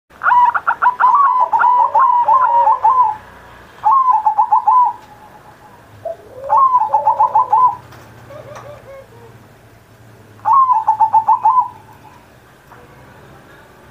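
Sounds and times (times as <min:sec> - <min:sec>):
dove cooing: 0:00.2 - 0:09.6, 0:10.4 - 0:12.4.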